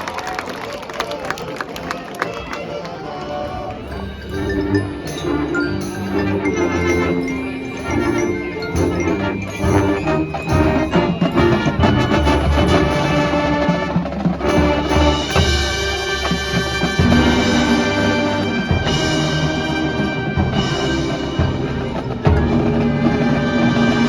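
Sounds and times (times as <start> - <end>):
marching band playing: 2.2 - 24.0.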